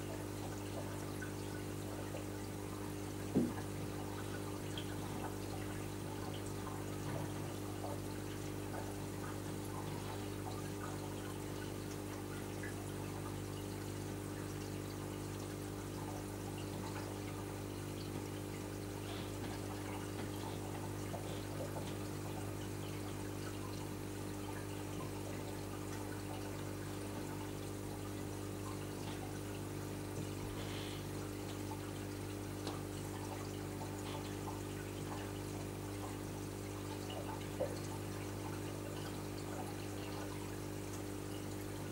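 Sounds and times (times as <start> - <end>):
electric pump hum: 0.0 - 41.9
trickling water: 0.0 - 41.9.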